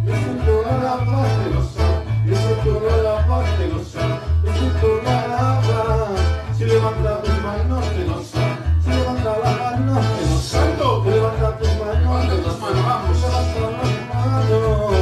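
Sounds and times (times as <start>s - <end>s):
electronic keyboard: 0.0s - 15.0s
rhythmic bass line: 0.0s - 15.0s
strummed acoustic guitar: 0.0s - 15.0s.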